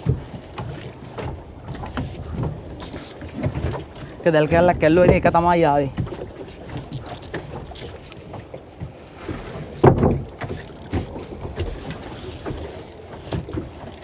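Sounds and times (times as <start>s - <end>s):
water splashing: 0.0s - 14.0s.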